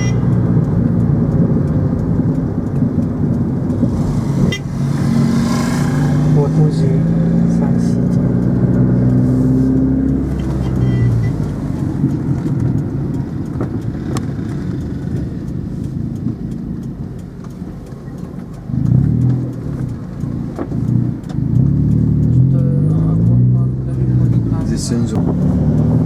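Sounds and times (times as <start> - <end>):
car engine: 0.0 - 26.0
road noise inside a car: 0.0 - 26.0.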